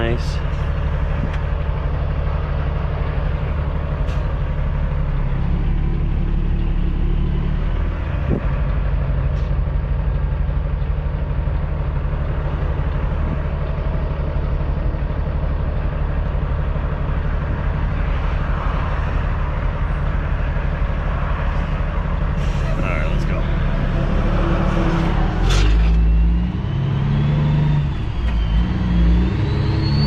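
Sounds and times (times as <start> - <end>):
diesel truck engine idling: 0.0 - 25.4.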